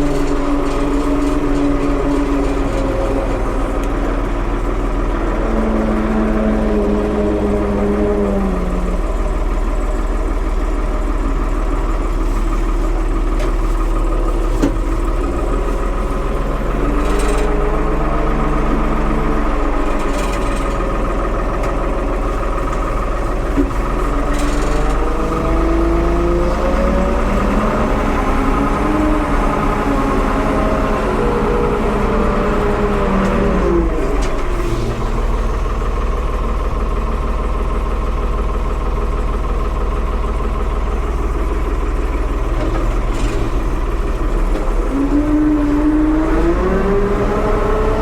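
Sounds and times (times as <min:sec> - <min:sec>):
backhoe engine running: 0:00.0 - 0:48.0.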